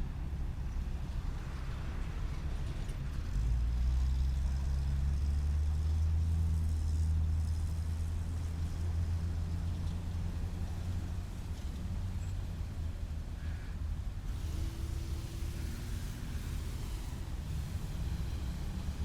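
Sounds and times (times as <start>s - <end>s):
large vehicle engine rumble: 0.0s - 19.0s.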